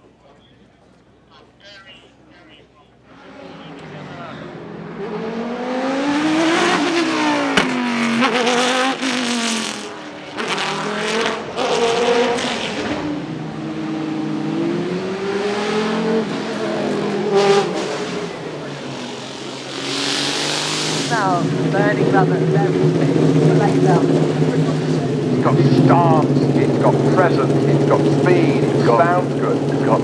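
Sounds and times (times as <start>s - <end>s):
race car engine revving hard: 3.1s - 30.0s.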